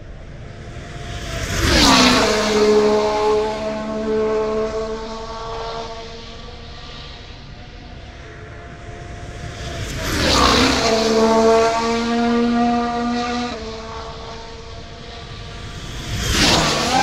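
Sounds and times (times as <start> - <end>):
racing car passing at speed: 0.2 - 17.0
racing car engine note: 1.4 - 17.0.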